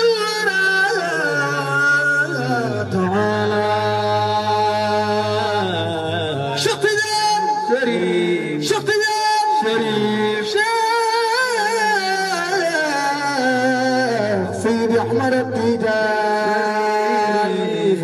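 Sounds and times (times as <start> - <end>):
man chanting into microphone: 0.0 - 18.0.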